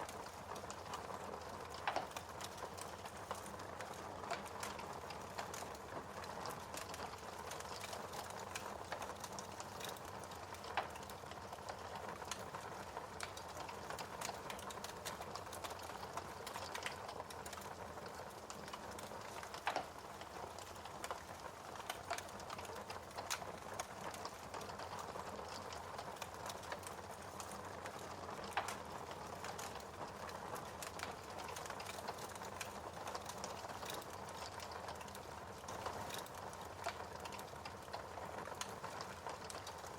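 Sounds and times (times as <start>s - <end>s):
fireplace fire hissing: 0.0s - 39.9s
fire popping and snapping: 0.1s - 39.9s.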